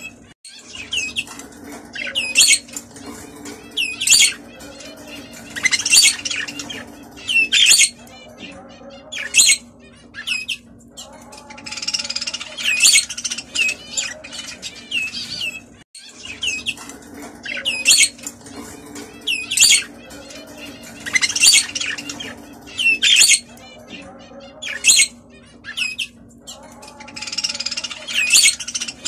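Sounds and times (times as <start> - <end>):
budgerigars chirping and squawking: 0.0 - 29.0.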